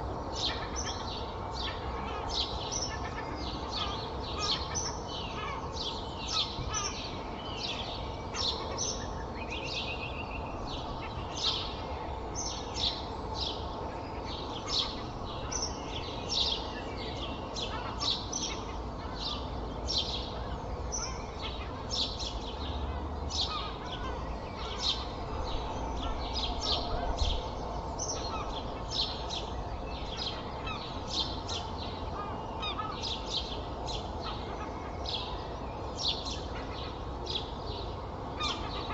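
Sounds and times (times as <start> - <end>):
low rumble of traffic: 0.0 - 38.9
songbirds chirping: 0.0 - 38.9.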